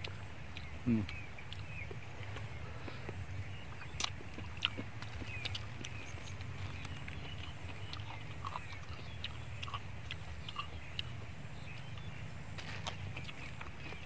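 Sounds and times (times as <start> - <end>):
soft chewing and clicks: 0.0 - 14.0
steady low rumble: 0.0 - 14.0.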